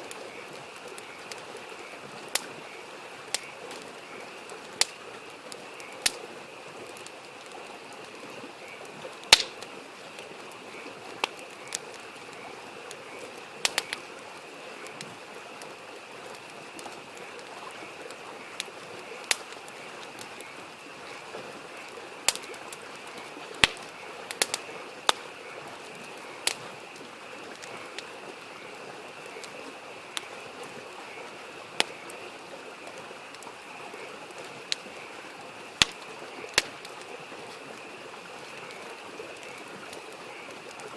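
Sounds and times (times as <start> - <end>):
campfire crackling and popping: 0.0 - 40.9
creek rushing: 0.0 - 40.9
frogs chorus: 0.0 - 40.9.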